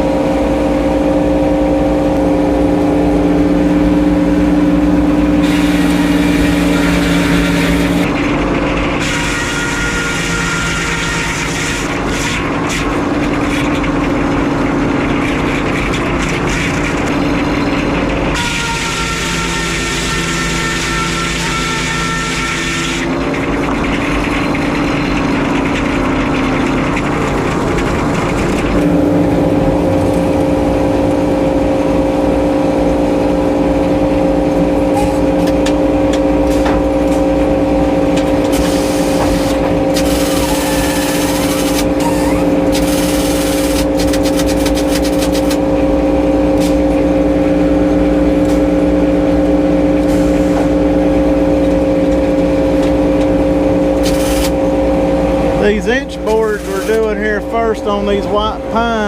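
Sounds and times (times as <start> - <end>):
sawmill steady drone: 0.0 - 59.0.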